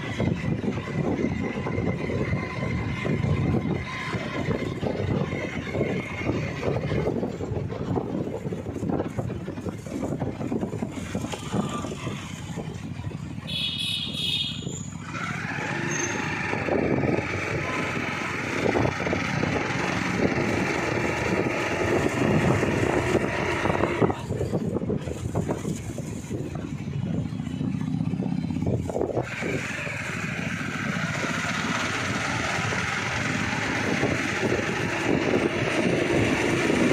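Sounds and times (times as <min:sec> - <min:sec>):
vehicle and road rumble: 0:00.0 - 0:36.9.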